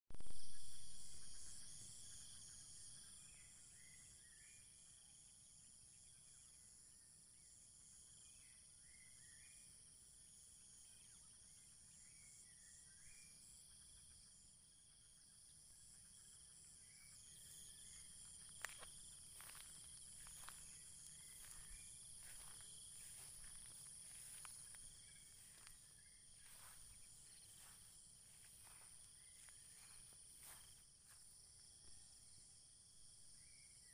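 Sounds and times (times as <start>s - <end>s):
insect chirps: 0.1s - 33.9s
insects droning: 0.1s - 33.9s.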